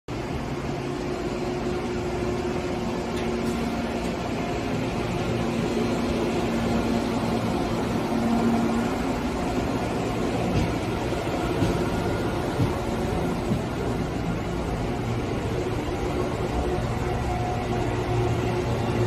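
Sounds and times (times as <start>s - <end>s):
train coaches rumbling slowly: 0.1s - 19.0s.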